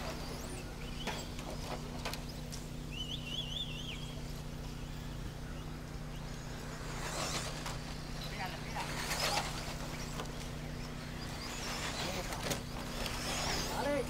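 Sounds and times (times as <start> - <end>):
rc trucks running: 0.0 - 14.0
steady low hum: 0.0 - 14.0
warbling whine: 0.0 - 14.0.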